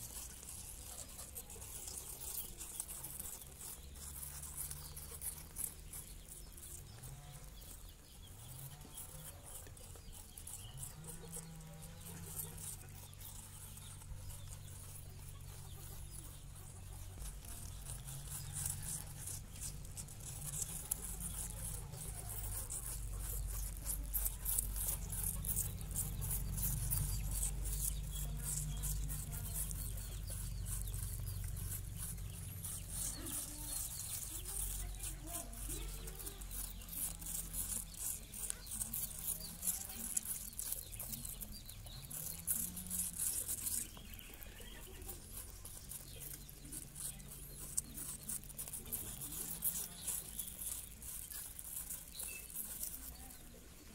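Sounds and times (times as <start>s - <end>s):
rabbits chewing apple: 0.0s - 53.9s.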